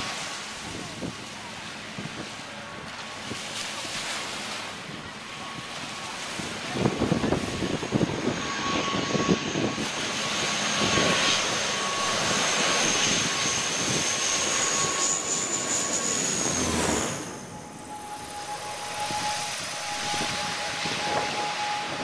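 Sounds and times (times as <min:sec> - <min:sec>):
airliner engine noise: 0:00.0 - 0:22.0
high engine whine: 0:03.8 - 0:22.0.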